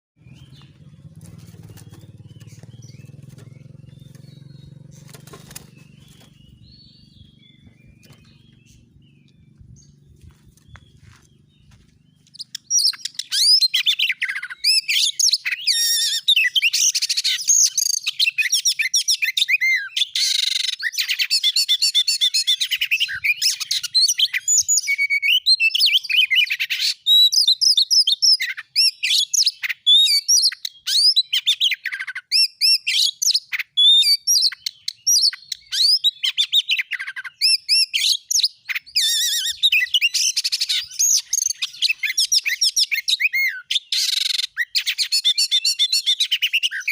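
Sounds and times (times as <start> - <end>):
songbird singing whistles and trills: 5.4 - 46.9.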